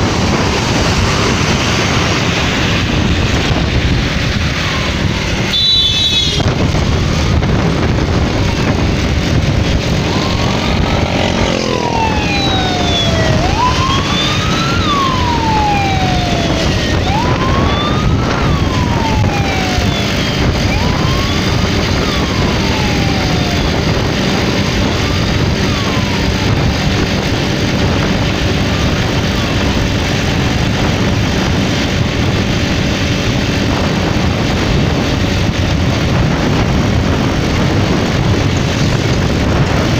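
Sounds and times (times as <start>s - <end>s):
siren wailing: 0.0s - 34.9s
motorcycle engine: 0.0s - 39.9s
wind rushing: 0.0s - 39.9s.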